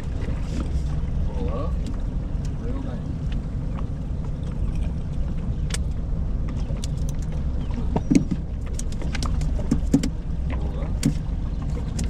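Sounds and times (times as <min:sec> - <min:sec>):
boat rumbling on water: 0:00.0 - 0:12.0.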